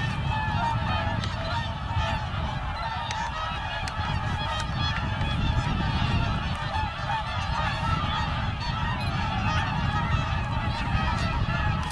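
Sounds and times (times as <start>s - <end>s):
swans trumpeting: 0.0s - 11.9s.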